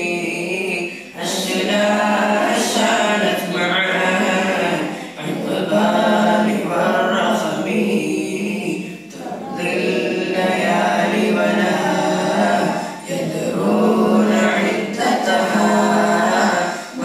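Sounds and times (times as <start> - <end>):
boys chanting together: 0.0 - 17.0.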